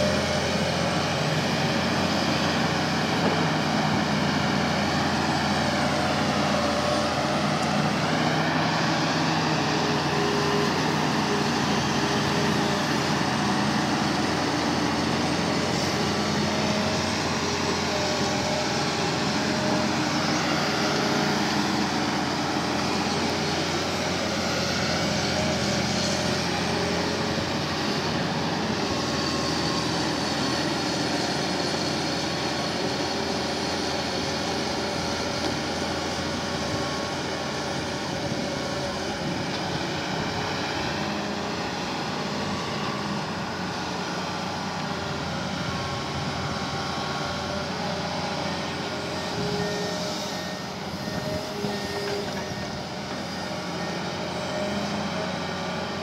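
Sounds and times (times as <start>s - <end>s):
excavator diesel engine: 0.0s - 56.0s
hydraulic whines shifting pitch: 1.0s - 56.0s.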